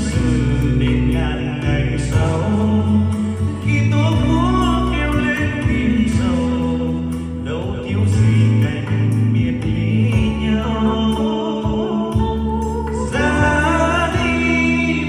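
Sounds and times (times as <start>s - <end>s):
song with vocal and heavy bass: 0.0s - 15.0s.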